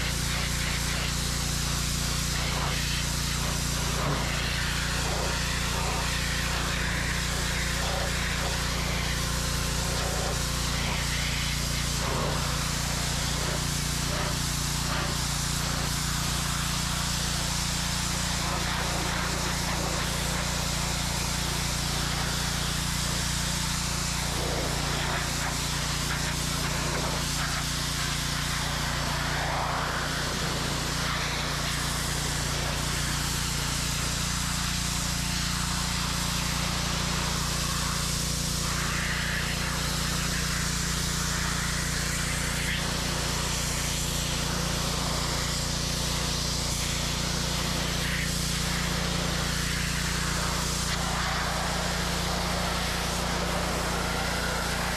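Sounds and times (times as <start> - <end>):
pressure washer engine running: 0.0 - 54.9
water jet hissing: 0.0 - 54.9.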